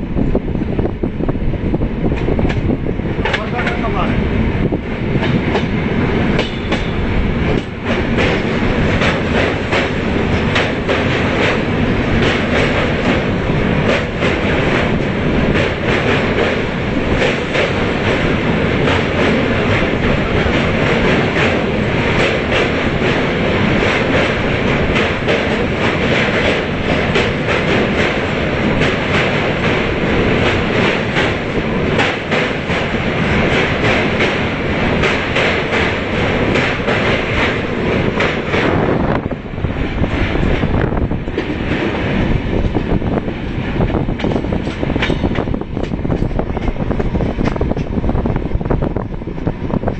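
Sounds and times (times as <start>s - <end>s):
train wheels rumbling on rails: 0.0s - 49.9s
rapid clickety-clack: 2.1s - 4.2s, 5.1s - 39.3s, 40.0s - 49.9s.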